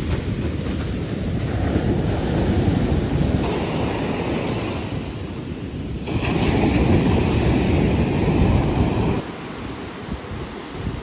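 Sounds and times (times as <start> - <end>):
ocean surf breaking: 0.0 - 11.0
whitewater washing up beach: 0.0 - 11.0
wind buffeting microphone: 0.0 - 11.0.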